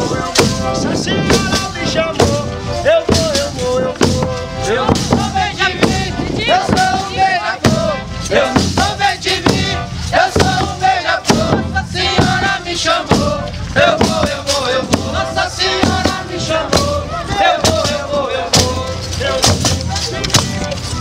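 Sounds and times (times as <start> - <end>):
group singing in chorus: 0.0 - 20.7
accordion: 0.0 - 21.0
bass drum beat: 0.0 - 21.0
small drums: 0.0 - 21.0.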